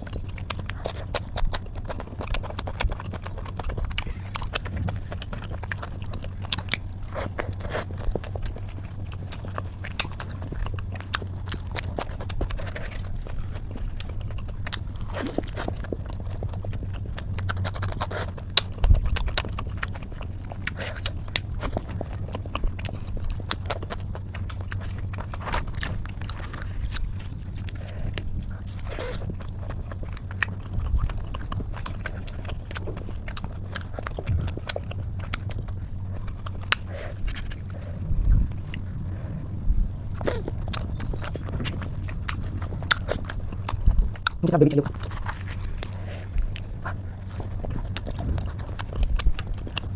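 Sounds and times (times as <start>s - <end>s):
low steady hum: 0.0s - 49.9s
person chewing and biting: 0.0s - 49.9s.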